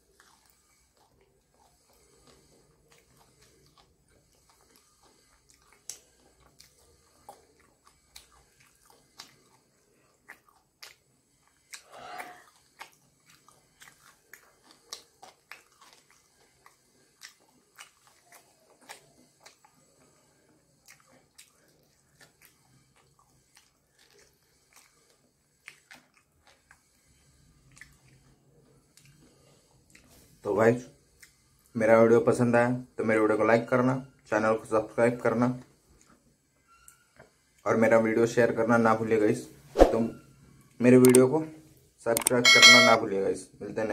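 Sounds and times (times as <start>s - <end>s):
chewing fried chicken: 0.0s - 39.3s.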